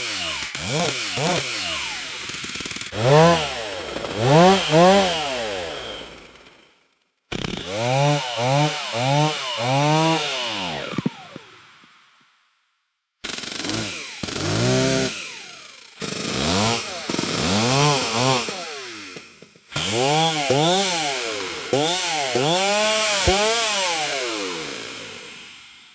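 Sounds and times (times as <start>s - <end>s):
chainsaw engine revving: 0.0s - 12.1s, 13.2s - 25.9s.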